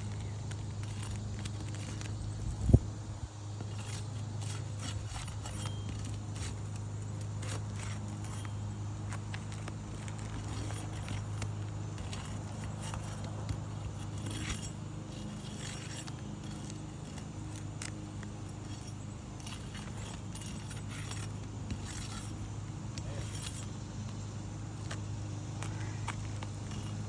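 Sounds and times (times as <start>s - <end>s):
roof shingles scraping and crackling: 0.0s - 27.0s
steady low hum: 0.0s - 27.0s.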